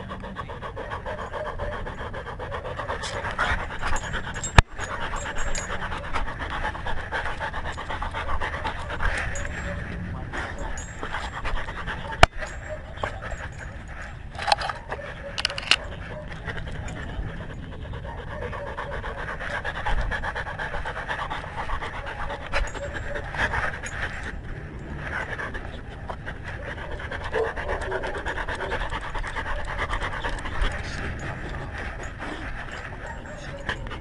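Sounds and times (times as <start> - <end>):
dog panting: 0.0 - 34.0
camera rumbling on collar: 1.0 - 34.0.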